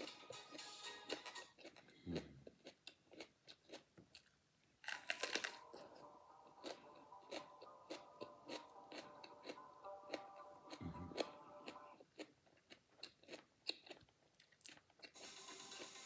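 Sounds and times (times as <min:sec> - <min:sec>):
crunching and chewing pepper: 0:00.0 - 0:15.9.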